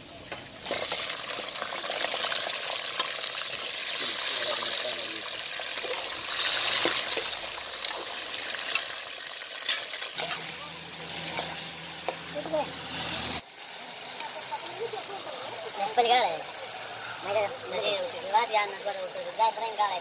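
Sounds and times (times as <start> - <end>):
chicken sizzling in hot oil: 0.5 - 20.0.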